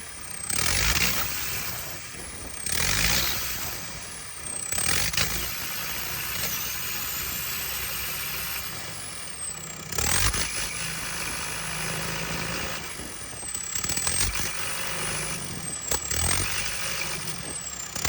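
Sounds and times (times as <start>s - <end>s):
diesel engine misfiring: 0.0s - 18.0s.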